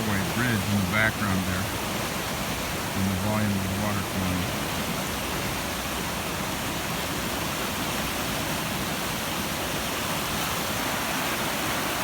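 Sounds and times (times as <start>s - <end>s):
floodwater roaring in creek: 0.0s - 12.0s.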